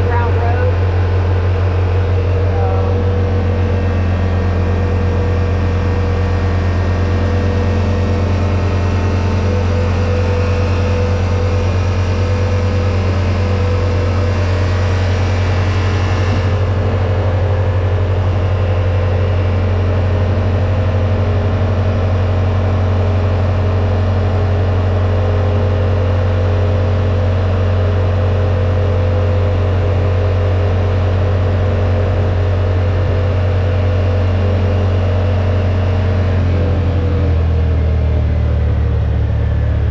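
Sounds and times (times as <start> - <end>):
utility vehicle engine droning: 0.0 - 39.9.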